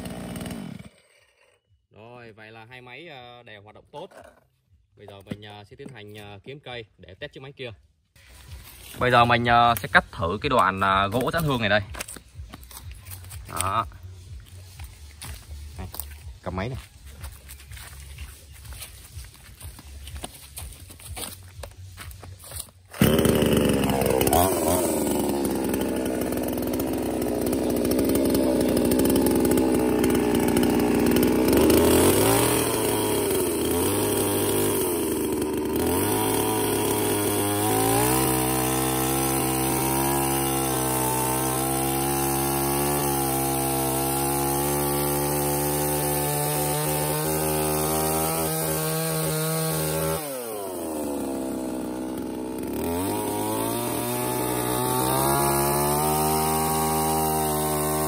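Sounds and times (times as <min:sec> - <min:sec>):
chainsaw sawing through log: 0:00.0 - 0:01.6, 0:08.2 - 0:58.0.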